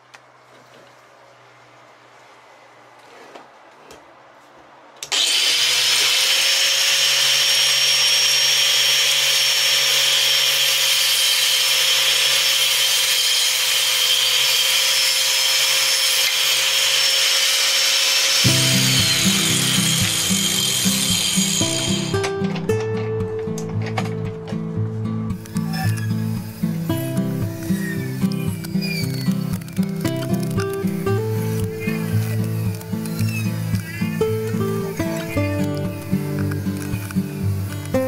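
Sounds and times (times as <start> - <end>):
electric mitre saw whining: 5.0 - 24.3, 25.3 - 38.0.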